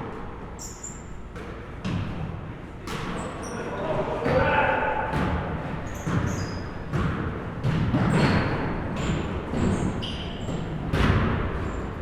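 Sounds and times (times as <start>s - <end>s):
sneaker squeaks: 0.1s - 1.8s, 2.9s - 12.0s
basketballs bouncing on gym floor: 1.3s - 3.3s, 4.2s - 12.0s.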